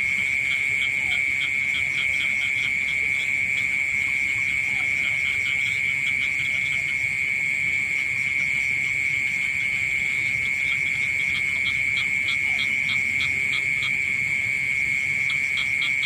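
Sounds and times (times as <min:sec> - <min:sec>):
cricket trilling: 0:00.0 - 0:16.0
frog calling: 0:00.0 - 0:16.0.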